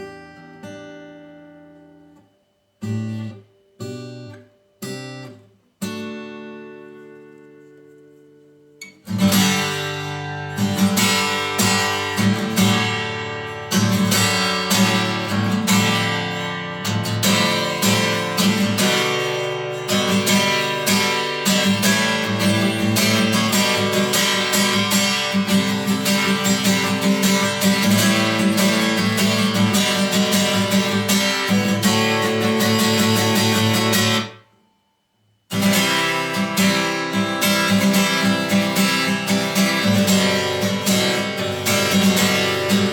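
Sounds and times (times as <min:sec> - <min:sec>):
acoustic guitar strumming chords: 0:00.0 - 0:42.9.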